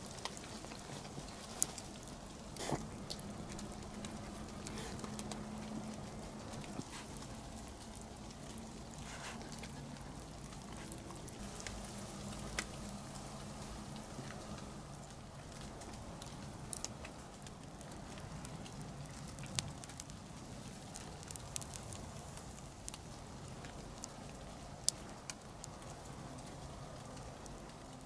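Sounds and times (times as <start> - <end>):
embers crackling and popping: 0.0 - 28.0.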